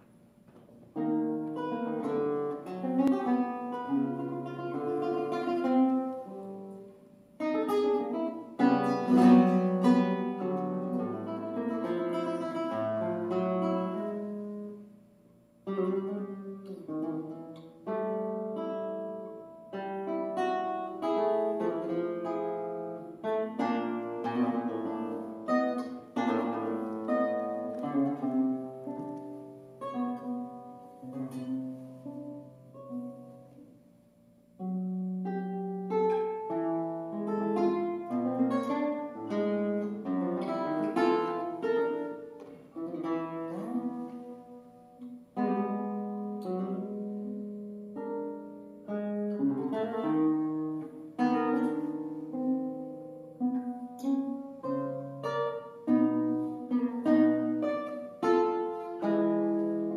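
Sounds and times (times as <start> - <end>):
classical guitar: 0.0 - 59.9.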